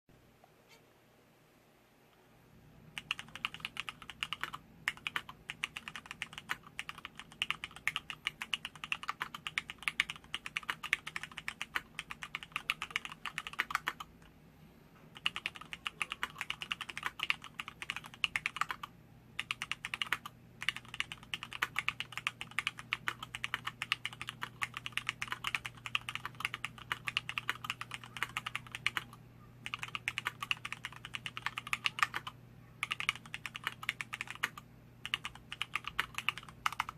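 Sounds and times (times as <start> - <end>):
fast mechanical keyboard typing: 3.0 - 14.1, 15.1 - 36.9.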